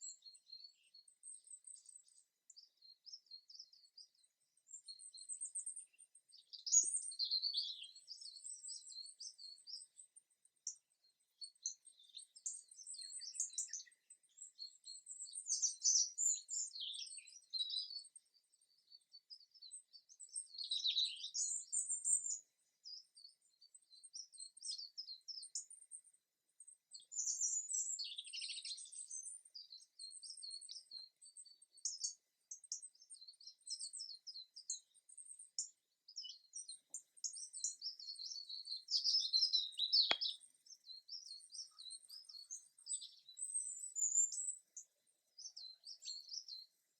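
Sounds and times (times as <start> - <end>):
songbirds chirping and singing: 0.0 - 46.8.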